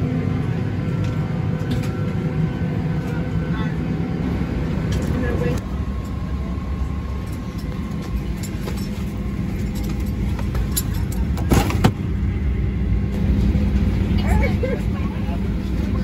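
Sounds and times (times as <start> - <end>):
airliner cabin rumble and hum: 0.0 - 16.0.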